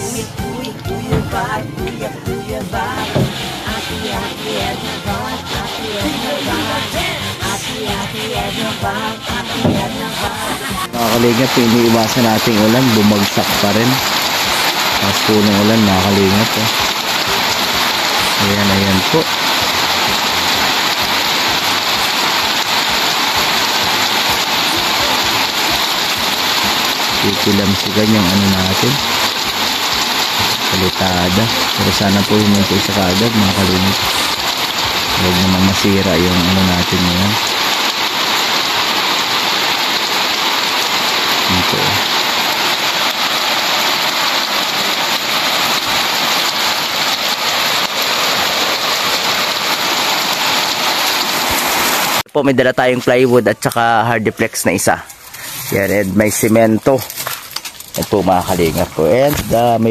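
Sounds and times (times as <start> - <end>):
heavy rain on a metal roof: 0.0 - 52.3, 53.0 - 59.9
water pouring onto muddy ground: 2.9 - 52.3, 55.2 - 59.9.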